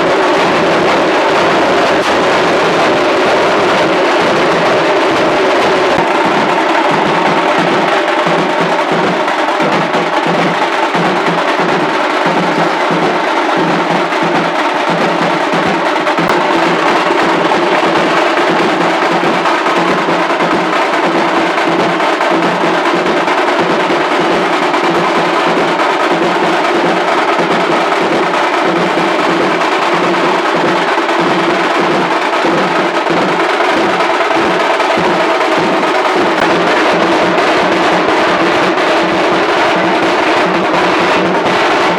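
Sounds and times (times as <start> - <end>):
music with driving drum beat: 0.0 - 41.9.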